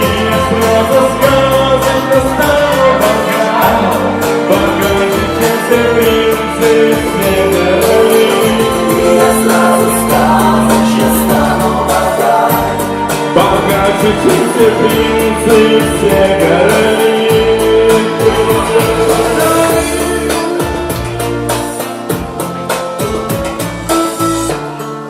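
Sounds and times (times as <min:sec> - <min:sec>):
song with vocals bass and beat: 0:00.0 - 0:24.7.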